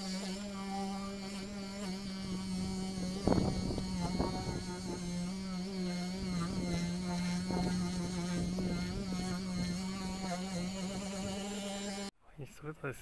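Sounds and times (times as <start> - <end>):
orbital polisher humming: 0.0 - 12.1.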